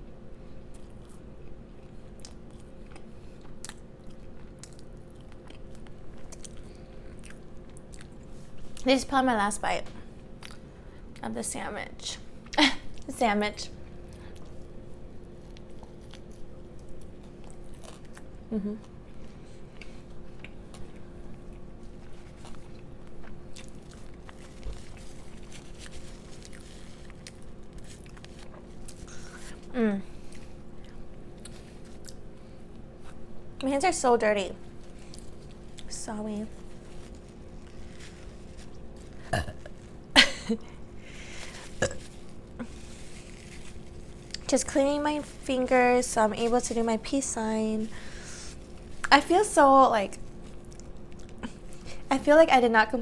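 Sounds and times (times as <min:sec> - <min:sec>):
chewing and crunching food: 0:00.0 - 0:09.0, 0:09.9 - 0:11.3, 0:12.3 - 0:33.7, 0:34.6 - 0:52.5
steady low hum: 0:00.0 - 0:53.0.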